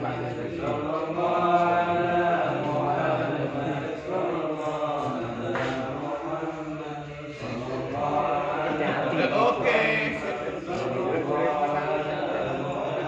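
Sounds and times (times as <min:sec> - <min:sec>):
men chanting prayers: 0:00.0 - 0:13.0.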